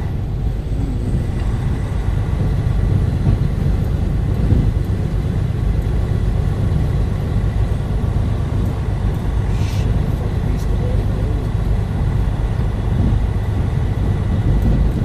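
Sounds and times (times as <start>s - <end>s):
truck engine rumble in cab: 0.0s - 15.0s.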